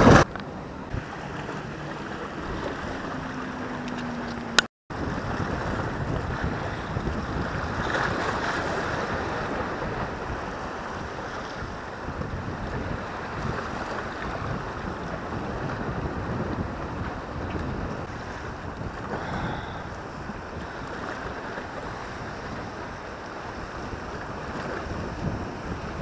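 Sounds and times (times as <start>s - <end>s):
sea washing against rocks: 0.0s - 26.0s
wind buffeting microphone: 0.0s - 26.0s.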